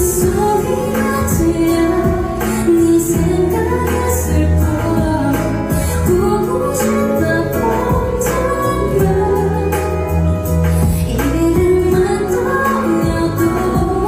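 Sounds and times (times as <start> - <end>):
instrumental accompaniment with bass: 0.0 - 14.0
woman singing a pop ballad: 0.0 - 14.0.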